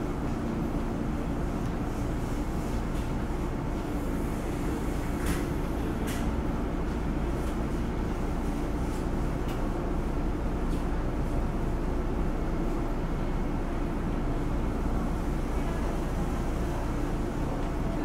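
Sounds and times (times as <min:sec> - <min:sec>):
train car air-conditioning hum: 0:00.0 - 0:18.0.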